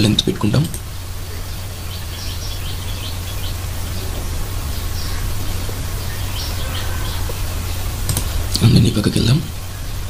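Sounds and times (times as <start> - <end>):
low electrical hum with hiss: 0.0 - 10.0.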